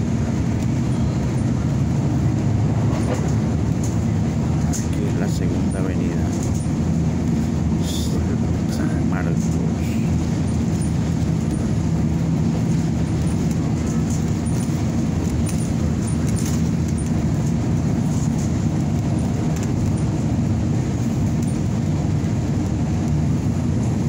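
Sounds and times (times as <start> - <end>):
road noise: 0.0 - 24.0
vehicle engine drone: 0.0 - 24.0.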